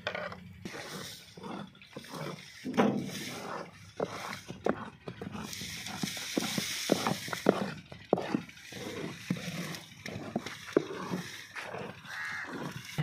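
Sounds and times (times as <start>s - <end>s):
scraper working jaggery in tray: 0.6s - 13.0s.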